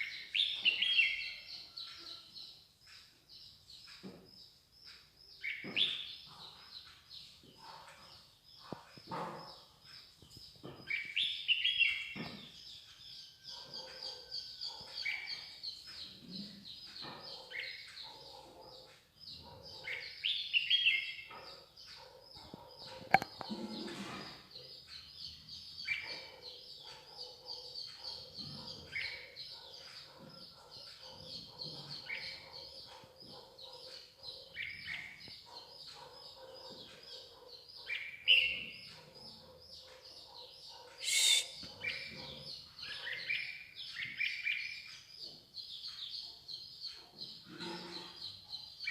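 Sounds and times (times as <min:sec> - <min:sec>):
songbirds calling and singing: 0:00.0 - 0:48.9.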